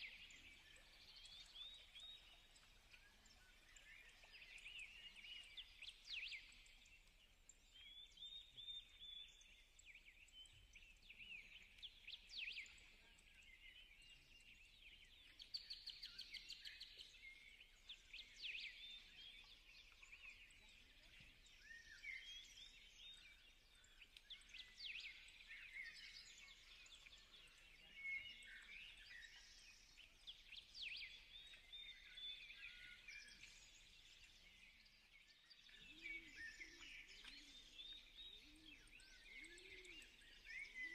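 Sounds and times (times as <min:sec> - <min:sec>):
faint small birds chirping: 0:00.0 - 0:40.9.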